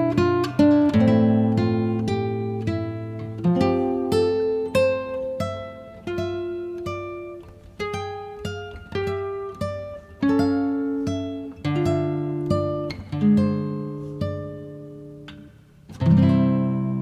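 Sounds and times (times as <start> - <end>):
acoustic guitar picking: 0.0 - 17.0.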